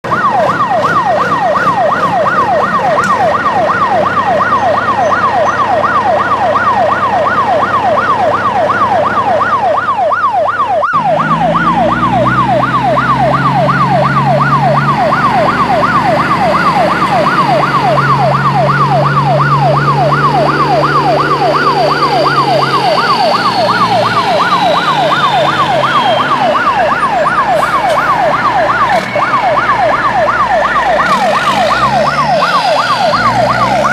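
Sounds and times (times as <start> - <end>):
electronic siren wailing: 0.0 - 33.9
low rising and falling drone: 0.3 - 33.9.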